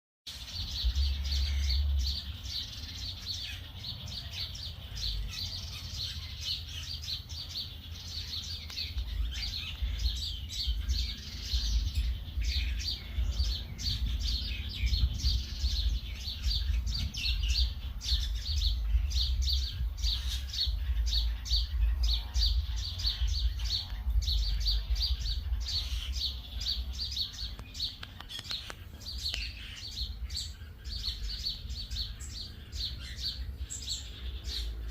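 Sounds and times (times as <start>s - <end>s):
small birds chirping: 0.2s - 34.9s
steady low rumble: 0.4s - 34.9s.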